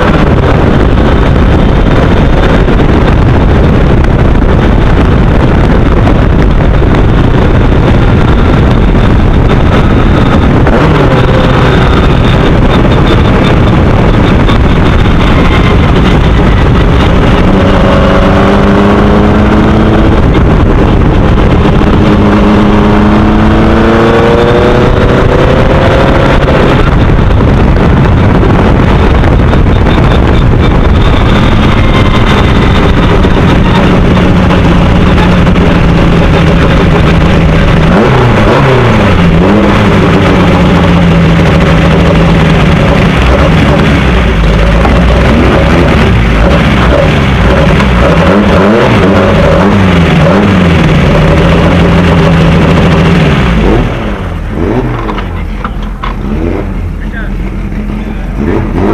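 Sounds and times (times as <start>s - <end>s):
race car engine running hard: 0.0s - 58.9s
wind buffeting on microphone: 0.0s - 58.9s.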